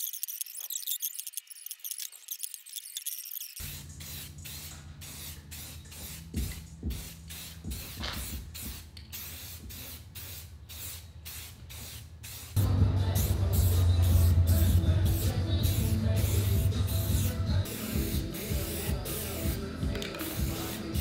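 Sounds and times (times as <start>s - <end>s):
aerosol spray can hissing: 3.4s - 12.6s, 13.2s - 21.0s.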